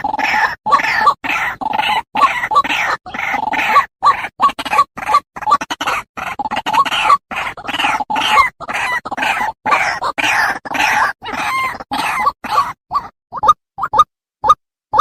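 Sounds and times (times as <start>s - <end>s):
waterhen harsh croaking calls: 0.0s - 15.0s.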